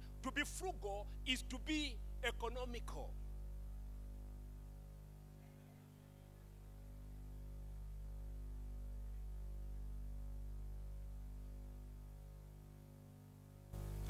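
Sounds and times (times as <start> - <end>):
faint music of low chords: 0.0 - 14.0.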